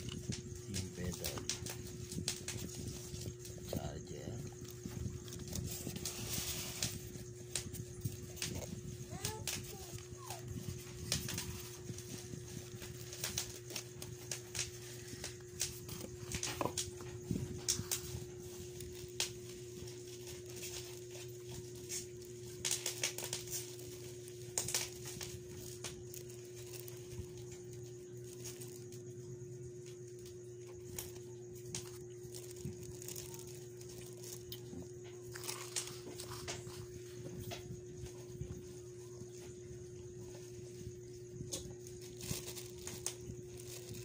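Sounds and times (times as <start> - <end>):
plastic wrapping rustling: 0.0 - 37.2, 41.5 - 44.0
steady low hum: 0.0 - 44.0.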